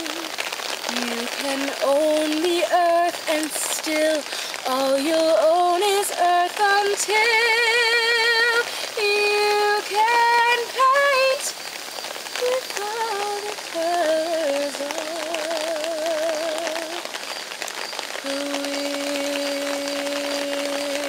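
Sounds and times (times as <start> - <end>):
woman singing with vibrato: 0.0 - 11.6, 12.4 - 17.1, 18.2 - 21.0
rain pattering: 0.0 - 21.0.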